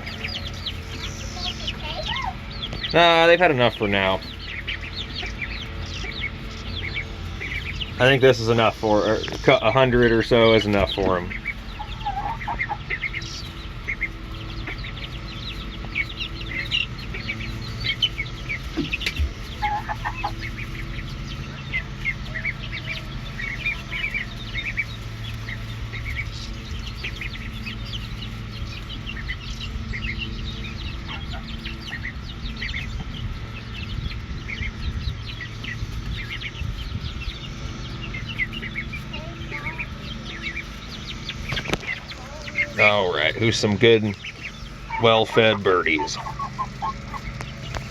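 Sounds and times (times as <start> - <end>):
chickens clucking softly: 0.0 - 47.9.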